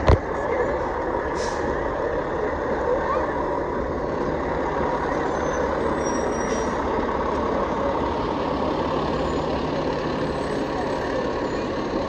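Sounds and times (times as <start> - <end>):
truck diesel engine passing: 0.2 - 12.0.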